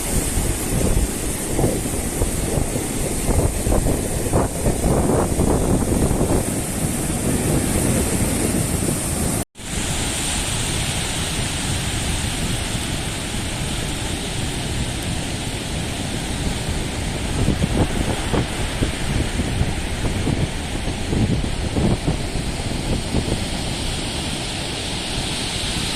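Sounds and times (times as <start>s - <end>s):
sea waves washing: 0.0s - 25.9s
wind buffeting microphone: 0.0s - 25.9s.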